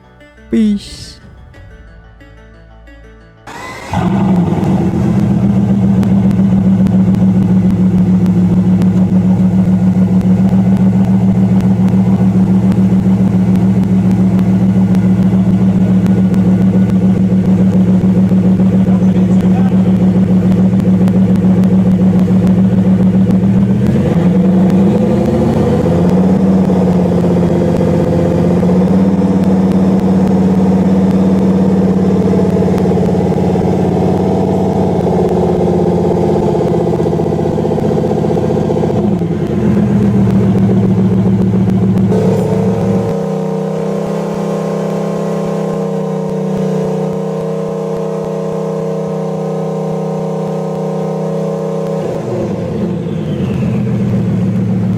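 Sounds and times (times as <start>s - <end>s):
sports car engine revving: 3.5s - 54.9s.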